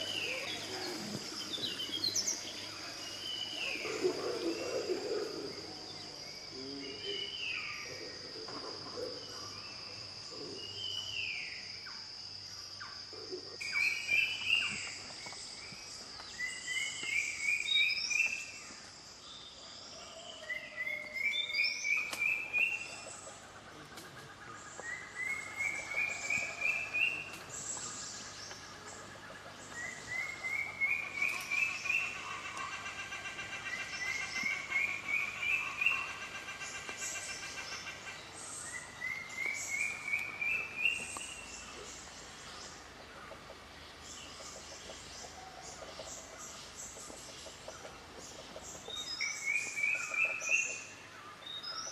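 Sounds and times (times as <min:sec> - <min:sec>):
forest birds calling: 0:00.0 - 0:51.9.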